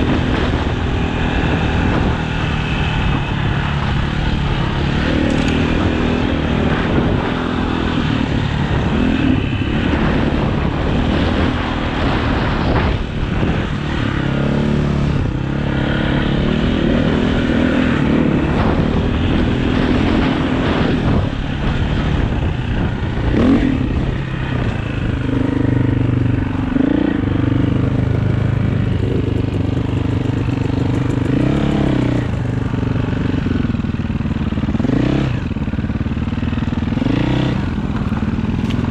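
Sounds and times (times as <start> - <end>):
continuous rushing noise: 0.0 - 38.9
dirt bike engine revving: 0.0 - 38.9.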